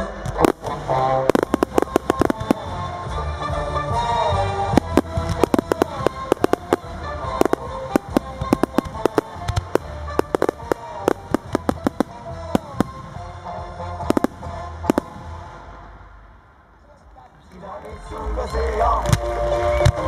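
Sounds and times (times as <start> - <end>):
fireworks bursting: 0.0 - 16.3.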